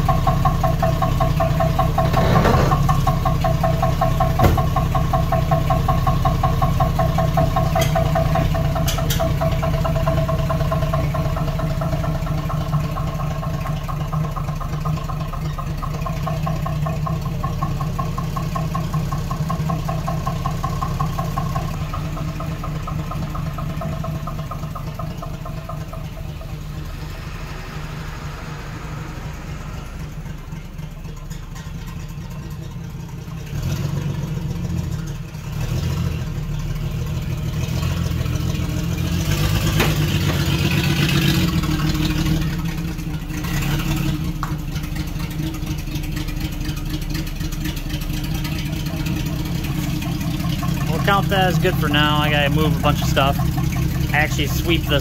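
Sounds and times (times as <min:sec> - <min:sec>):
car engine driving: 0:00.0 - 0:55.0.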